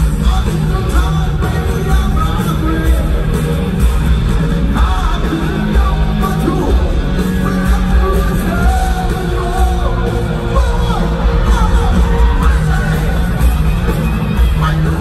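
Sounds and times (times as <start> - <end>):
bass: 0.0 - 15.0
drums: 0.0 - 15.0
electric guitars: 0.0 - 15.0
vocalist singing: 0.0 - 15.0.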